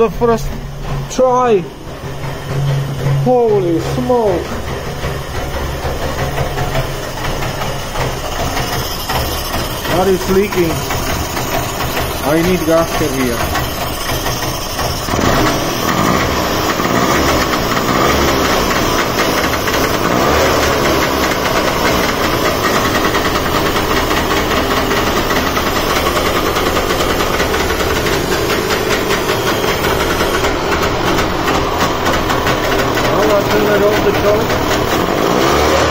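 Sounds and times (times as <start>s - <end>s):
two-stroke engine running: 0.0s - 35.9s.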